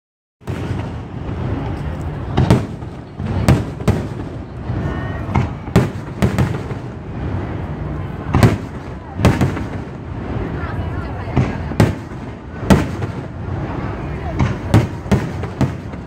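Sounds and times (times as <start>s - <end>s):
fireworks bangs: 0.4s - 16.0s.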